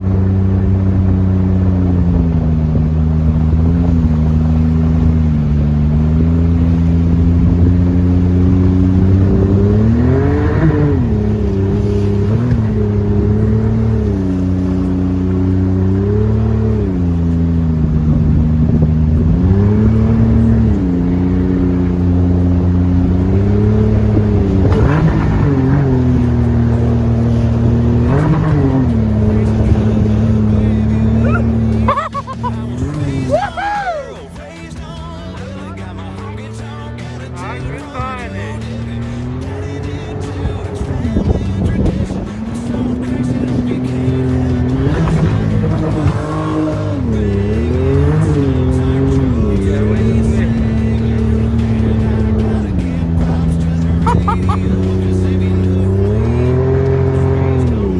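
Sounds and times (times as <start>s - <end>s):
boat engine revving: 0.0s - 57.9s.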